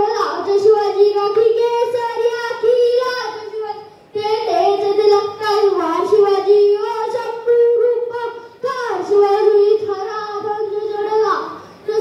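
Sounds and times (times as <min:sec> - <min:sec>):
boy singing: 0:00.0 - 0:12.0.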